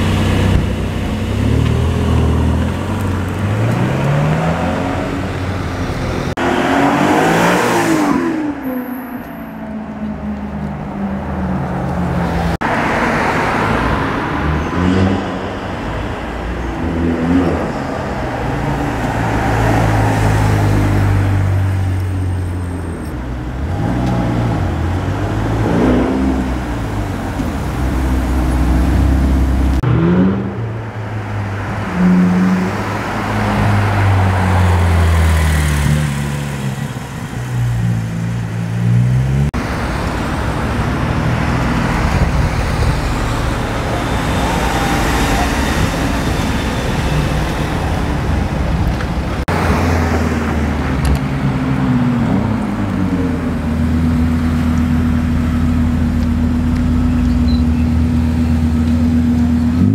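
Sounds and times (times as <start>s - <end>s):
sports car engines revving: 0.0s - 59.9s.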